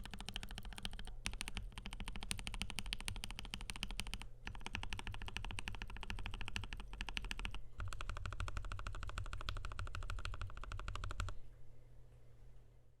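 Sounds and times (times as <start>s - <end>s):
fast mechanical keyboard typing: 0.0s - 11.4s.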